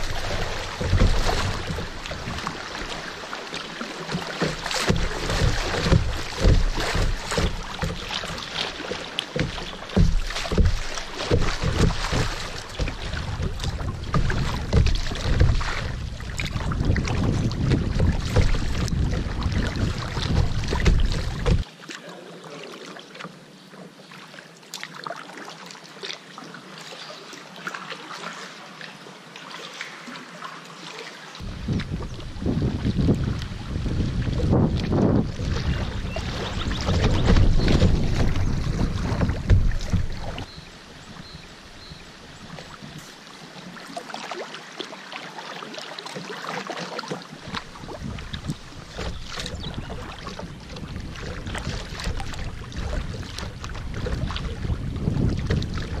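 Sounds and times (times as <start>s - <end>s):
sharp water splashes: 0.0s - 22.1s, 29.5s - 56.0s
water rushing around kayak: 0.0s - 56.0s.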